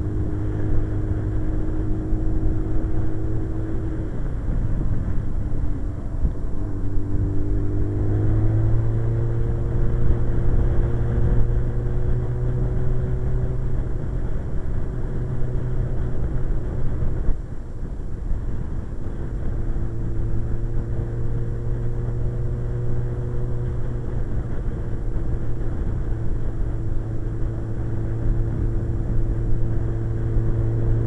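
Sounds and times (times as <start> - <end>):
motorcycle engine running: 0.0 - 31.0
wind rush: 0.0 - 31.0.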